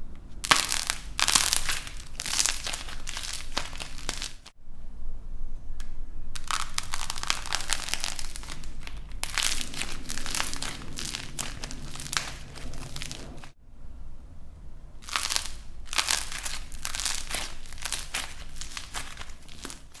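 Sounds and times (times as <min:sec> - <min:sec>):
dried clay crackling and crunching: 0:00.1 - 0:04.6, 0:06.3 - 0:13.6, 0:15.0 - 0:20.0.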